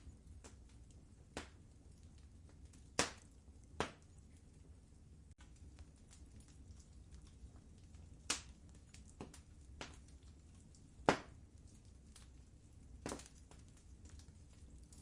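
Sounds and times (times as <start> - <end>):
low rumble of burning fire: 0.0 - 15.0
wood fire crackling: 0.0 - 15.0.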